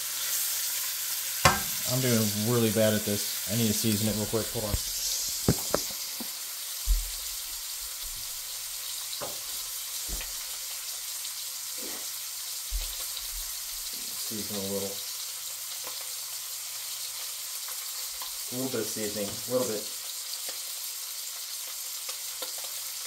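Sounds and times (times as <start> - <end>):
steak sizzling in a pan: 0.0 - 23.0.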